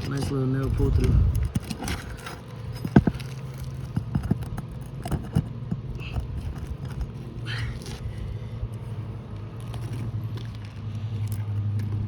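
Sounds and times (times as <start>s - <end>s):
clicks and scrapes on roof shingles: 0.0s - 12.0s
steady low hum: 0.0s - 12.0s.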